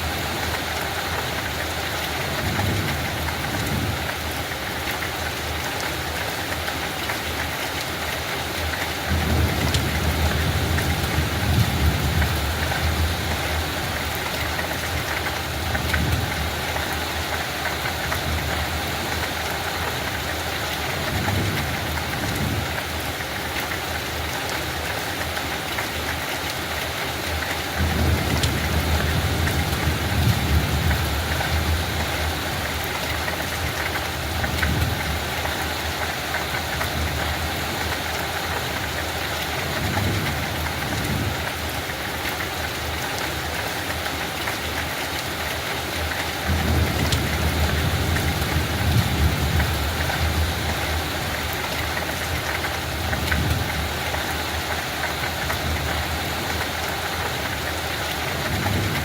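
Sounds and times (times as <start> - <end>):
rain hissing on a field: 0.0 - 59.0.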